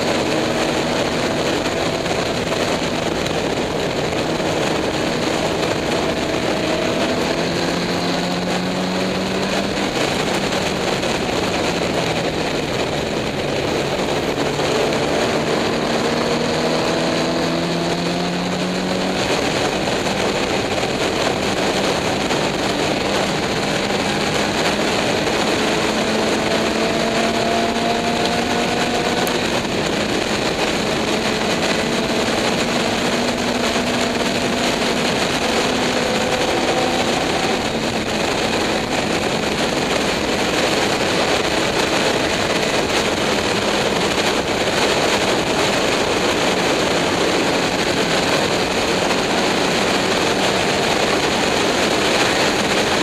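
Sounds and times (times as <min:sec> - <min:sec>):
race car engine accelerating: 0:00.0 - 0:53.0
wind rush: 0:00.0 - 0:53.0.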